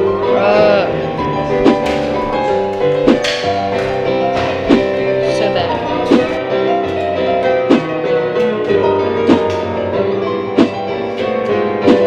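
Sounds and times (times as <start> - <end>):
lively piano piece: 0.0 - 12.0.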